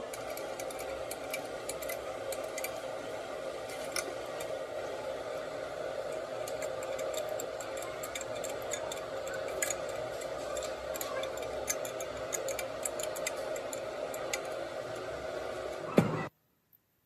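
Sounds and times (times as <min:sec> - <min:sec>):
workshop hum: 0:00.0 - 0:16.9.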